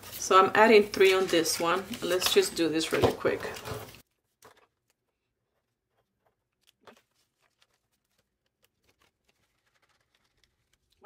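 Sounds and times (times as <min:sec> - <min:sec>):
paper money rustling: 0:00.0 - 0:11.0.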